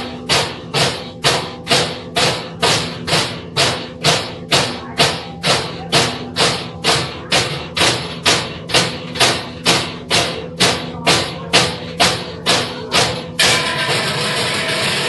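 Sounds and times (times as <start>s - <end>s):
large bells clanging in unison: 0.0s - 15.0s.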